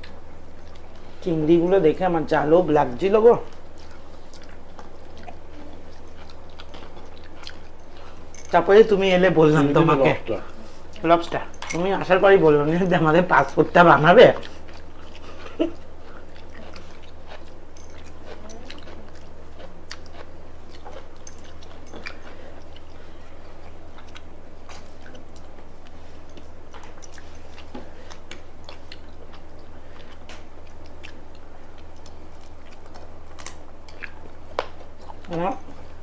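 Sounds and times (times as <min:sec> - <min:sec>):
chewing and biting food: 0:00.0 - 0:36.0.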